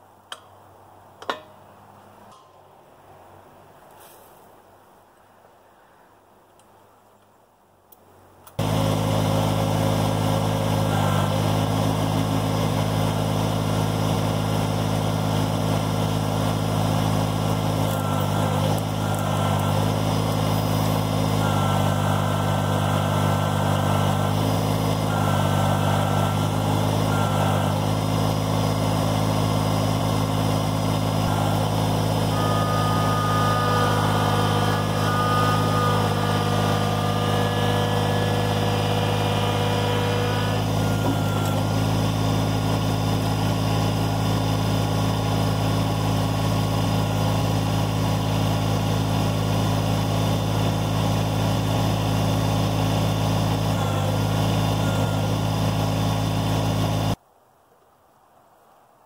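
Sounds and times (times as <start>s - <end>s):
diesel tractor engine running: 8.5s - 57.2s
hydraulics whine: 8.5s - 57.2s.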